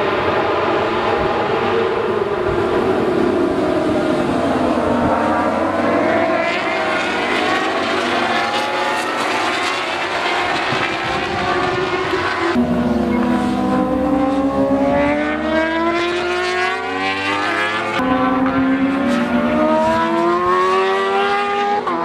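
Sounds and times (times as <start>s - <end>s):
motorbike engines racing: 0.0s - 22.0s.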